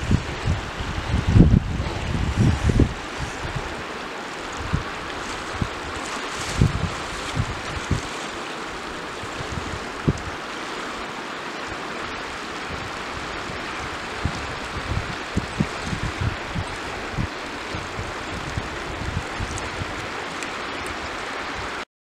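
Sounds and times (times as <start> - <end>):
wind thumps on microphone: 0.0 - 10.5, 12.1 - 21.8
river rushing over stones: 0.0 - 21.8.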